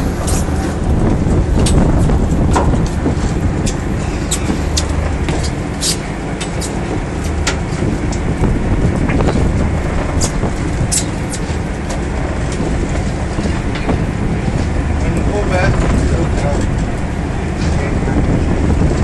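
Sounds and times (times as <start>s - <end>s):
boat engine rumbling: 0.0s - 19.0s
hull slapping water: 0.0s - 19.0s.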